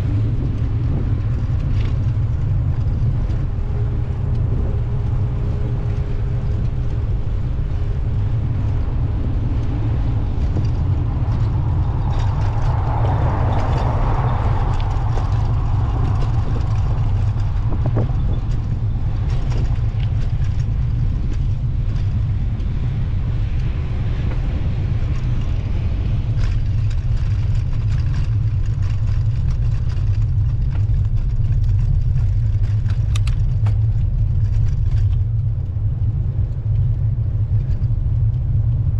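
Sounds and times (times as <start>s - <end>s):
street traffic: 0.0s - 38.9s
wind rumble on microphone: 0.0s - 38.9s.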